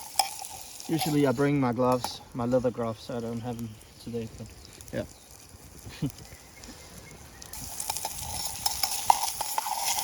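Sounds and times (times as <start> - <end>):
meat sizzling with pops: 0.0 - 10.0.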